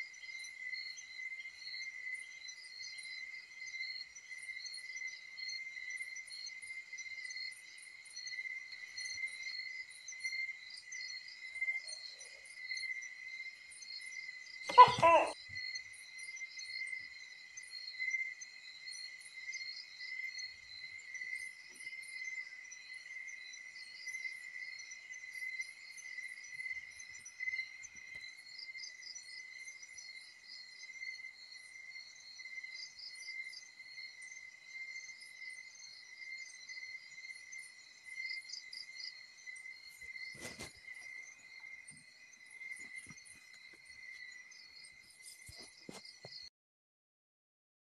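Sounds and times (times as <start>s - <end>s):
crickets trilling and chirping: 0.0s - 14.6s, 15.4s - 46.5s.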